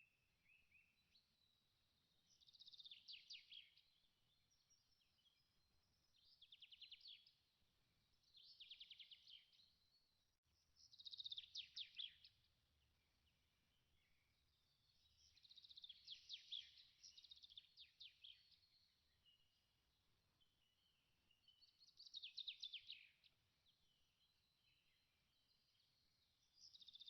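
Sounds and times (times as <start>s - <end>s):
faint bird chirps: 0.0s - 7.4s, 8.2s - 27.0s.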